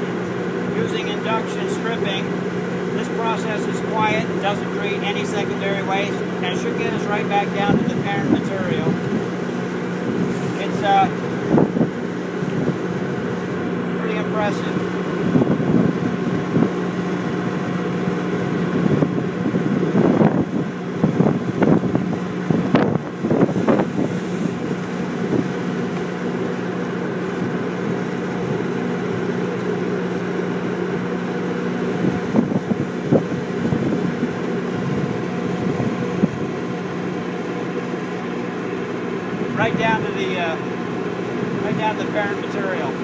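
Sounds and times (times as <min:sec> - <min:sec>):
generator engine humming: 0:00.0 - 0:43.0.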